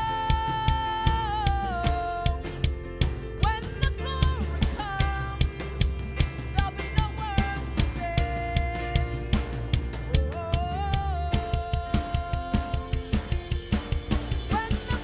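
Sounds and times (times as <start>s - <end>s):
woman singing into microphone: 0.0s - 13.6s, 14.5s - 15.0s
drum kit steady beat: 0.0s - 15.0s
sustained low bass: 0.0s - 15.0s.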